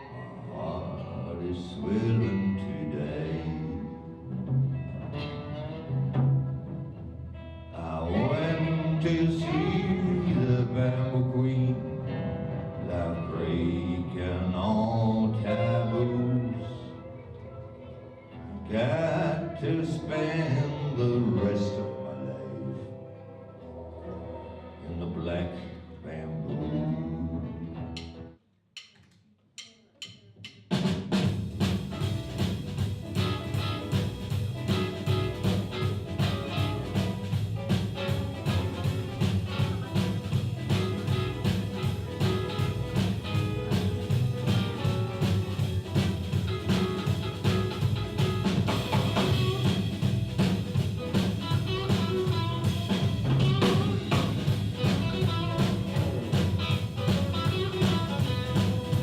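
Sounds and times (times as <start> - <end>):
blues band playing: 0.0 - 28.4, 30.7 - 59.0.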